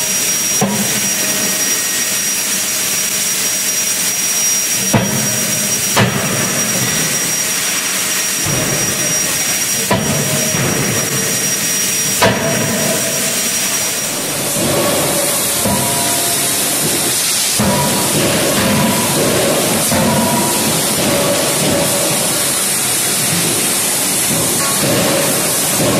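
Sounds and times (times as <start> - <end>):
forging hammer blows: 0.0 - 25.9
steady loud hiss: 0.0 - 25.9.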